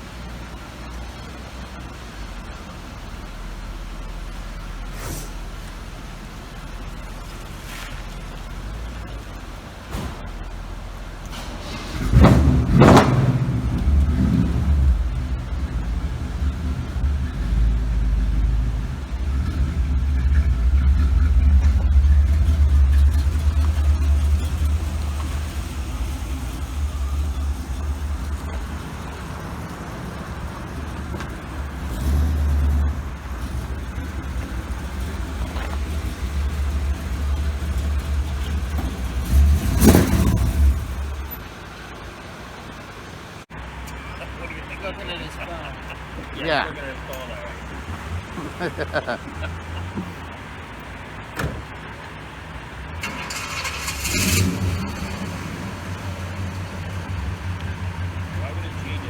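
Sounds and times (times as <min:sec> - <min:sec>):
vehicle engine rumble: 0:00.0 - 0:59.0.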